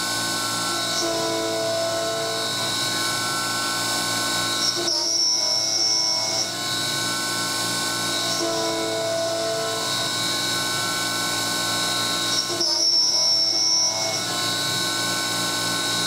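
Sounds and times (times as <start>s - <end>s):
milling spindle whine: 0.0s - 16.0s.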